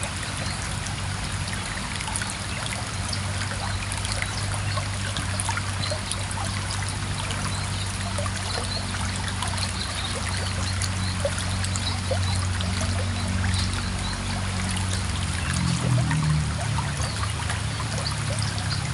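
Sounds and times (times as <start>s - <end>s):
water trickling and splashing: 0.0s - 18.9s.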